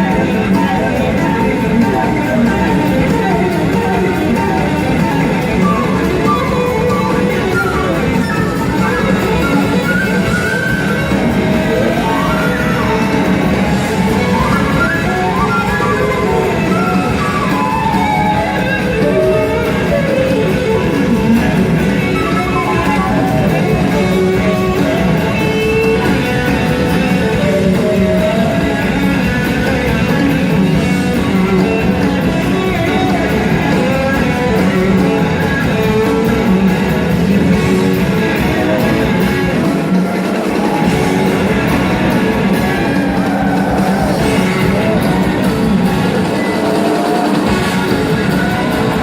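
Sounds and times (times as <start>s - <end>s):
blues-rock band playing: 0.0s - 49.0s
electric guitar bending notes: 0.0s - 49.0s.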